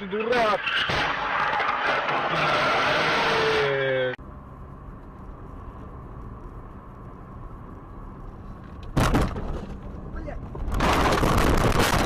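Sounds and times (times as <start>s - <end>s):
vehicle and road noise: 0.0s - 12.0s.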